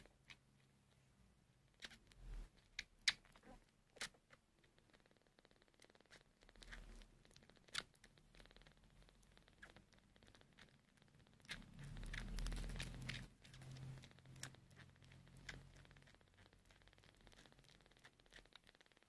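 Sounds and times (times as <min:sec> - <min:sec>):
kitten suckling wet clicks: 0:01.7 - 0:19.0.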